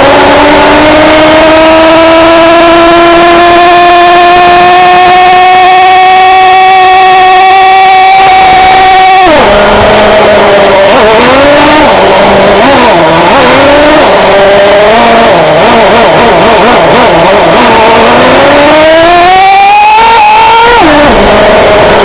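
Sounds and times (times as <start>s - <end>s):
toy car engine revving: 0.0s - 22.0s.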